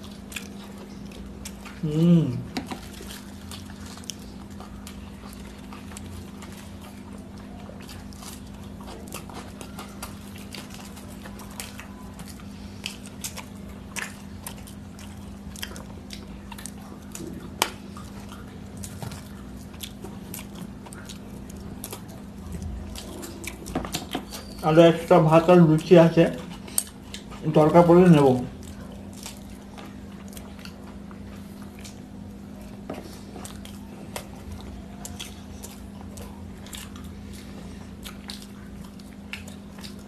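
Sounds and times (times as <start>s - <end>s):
people chewing food: 0.0s - 40.0s
steady low hum: 0.0s - 40.0s.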